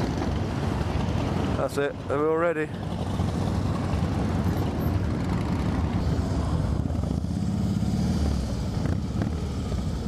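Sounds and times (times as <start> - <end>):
motorcycle engines idling: 0.0 - 10.0.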